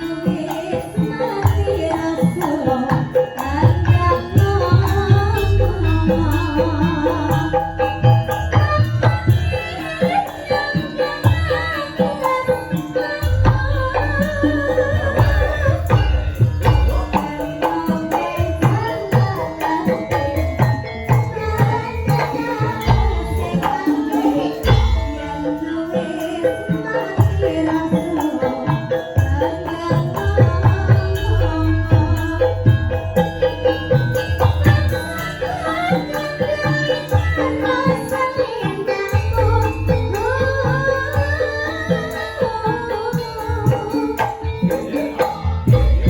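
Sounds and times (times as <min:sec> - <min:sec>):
hand drums playing: 0:00.0 - 0:46.0
rattling jingling percussion: 0:00.0 - 0:46.0
wavering melody line: 0:00.0 - 0:46.0.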